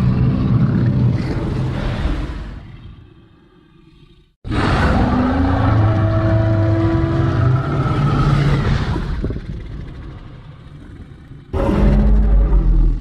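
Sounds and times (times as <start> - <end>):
deep dinosaur roar: 0.0 - 13.0.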